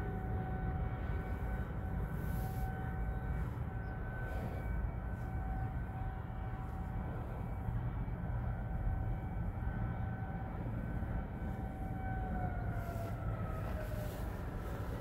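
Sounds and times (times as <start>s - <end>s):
distant warning sirens: 0.0s - 15.0s
steady low rumble: 0.0s - 15.0s.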